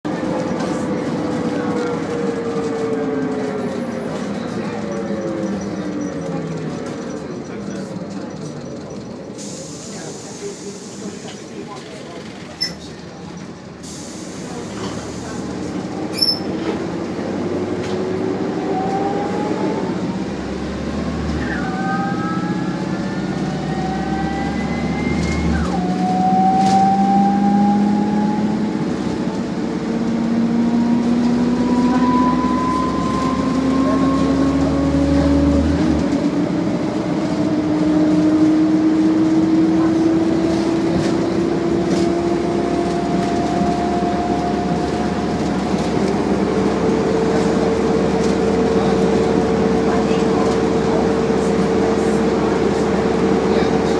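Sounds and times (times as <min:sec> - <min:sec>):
bus engine and drivetrain whine: 0:00.0 - 0:53.9.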